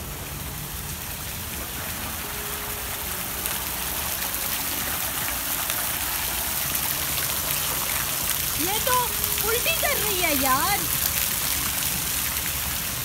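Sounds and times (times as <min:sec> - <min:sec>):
fountain water splashing into basin: 0:00.0 - 0:13.0.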